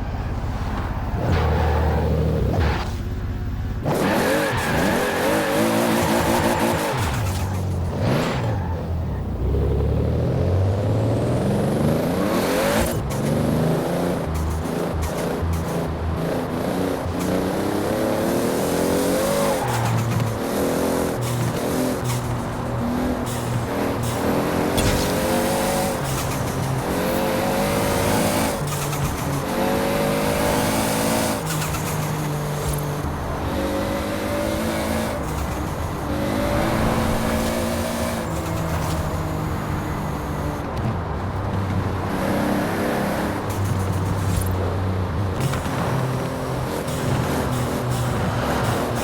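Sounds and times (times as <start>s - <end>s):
car engine accelerating hard: 3.8s - 49.0s.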